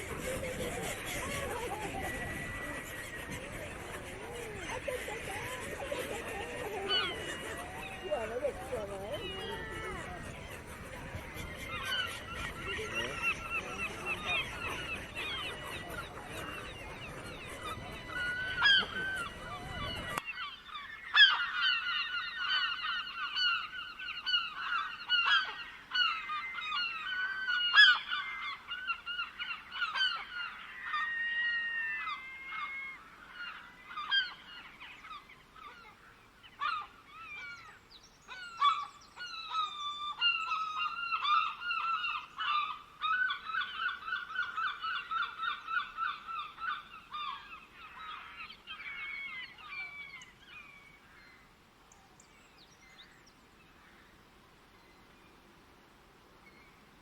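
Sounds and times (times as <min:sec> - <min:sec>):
flock of birds calling: 0:00.0 - 0:51.4.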